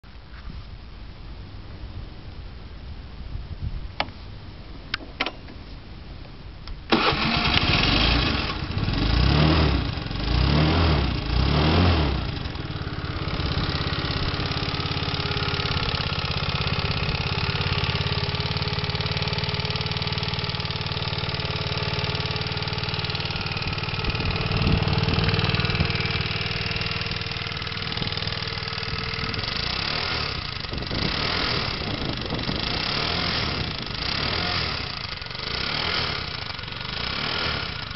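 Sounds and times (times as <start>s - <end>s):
engine rattling: 6.7s - 37.9s
car engine revving and idling: 6.9s - 37.9s.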